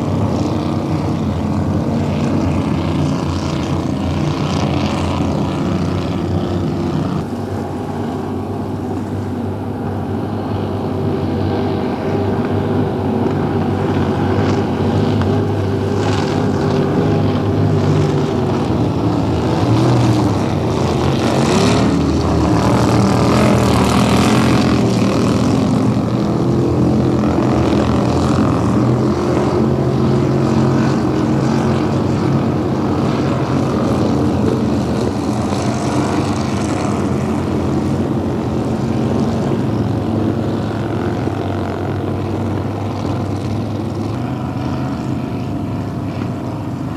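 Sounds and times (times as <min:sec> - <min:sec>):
boat passing by: 0:00.0 - 0:46.9
powerboat engines droning: 0:00.0 - 0:46.9.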